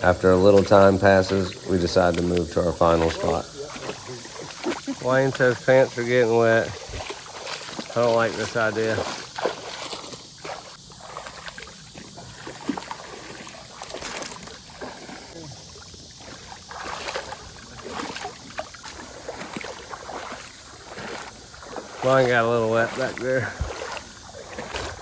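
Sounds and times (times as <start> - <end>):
wading through shallow water: 0.0 - 25.0.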